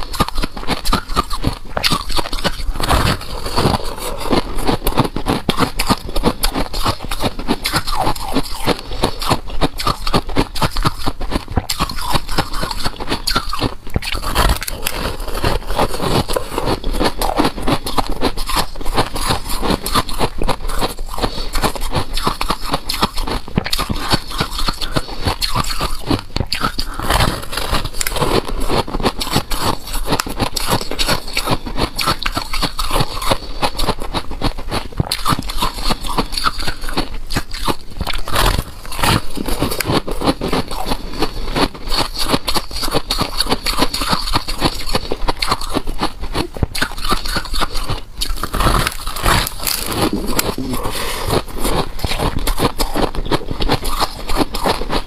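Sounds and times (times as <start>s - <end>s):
chewing crunchy frost: 0.0s - 55.0s.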